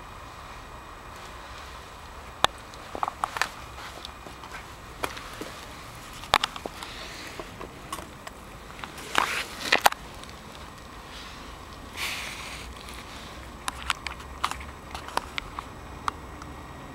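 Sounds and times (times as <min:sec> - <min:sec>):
crunching rustling noises: 0:00.5 - 0:16.5.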